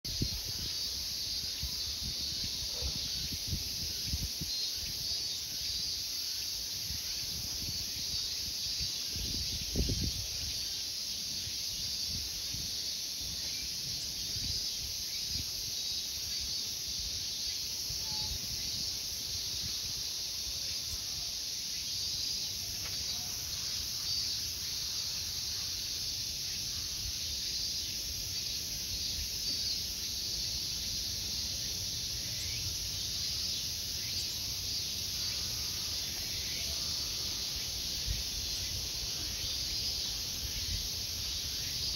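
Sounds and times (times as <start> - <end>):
high-pitched insect chorus: 0.1 - 41.9.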